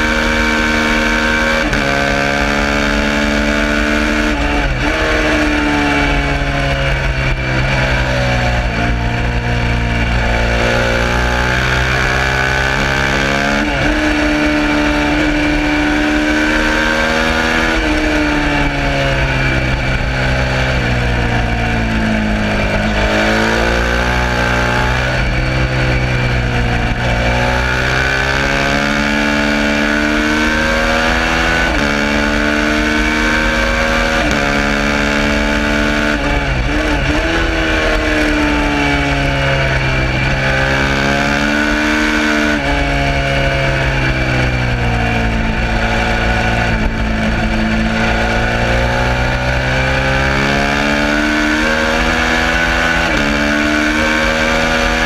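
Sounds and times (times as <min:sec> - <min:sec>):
motorcycle engine revving hard: 0:00.0 - 0:55.0.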